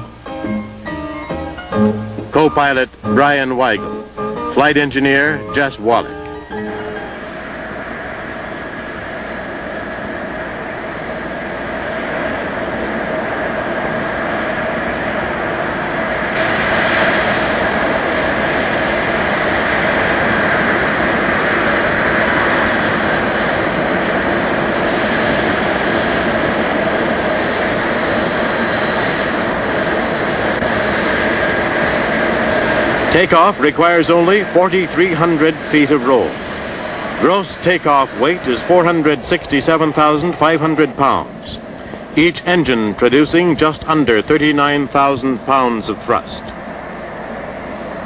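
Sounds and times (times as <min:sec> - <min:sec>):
high engine whine: 0:00.0 - 0:48.0
jet engines running: 0:00.0 - 0:48.0.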